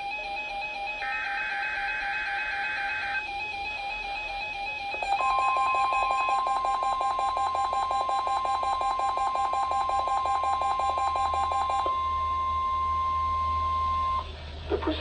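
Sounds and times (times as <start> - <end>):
rapid beeping: 0.0 - 14.2
steady high alarm tone: 0.0 - 14.3.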